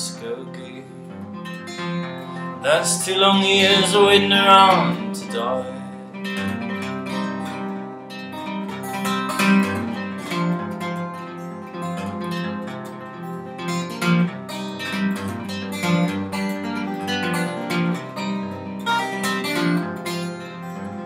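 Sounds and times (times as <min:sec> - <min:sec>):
acoustic guitar picking: 0:00.0 - 0:21.0.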